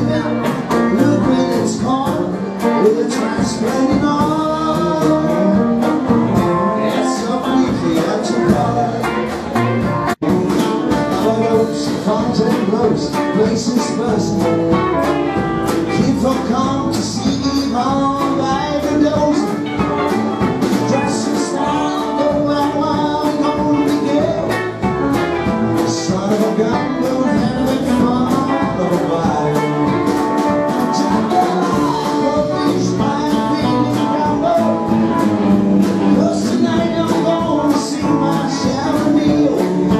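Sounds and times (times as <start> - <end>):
live rock band playing: 0.0 - 39.9
man singing lead vocal: 0.0 - 39.9.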